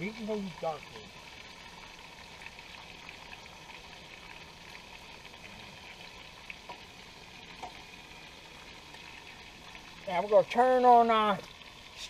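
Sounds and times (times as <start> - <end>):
steak sizzling in a pan: 0.0 - 12.0.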